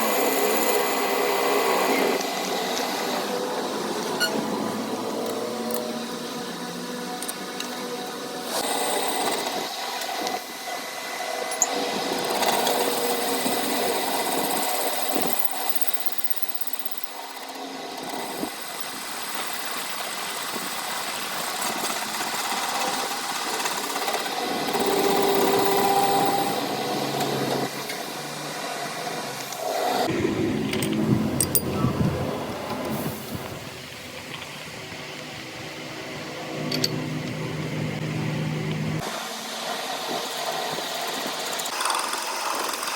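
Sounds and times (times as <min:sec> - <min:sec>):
small machine running: 0:00.0 - 0:32.9, 0:33.8 - 0:42.9.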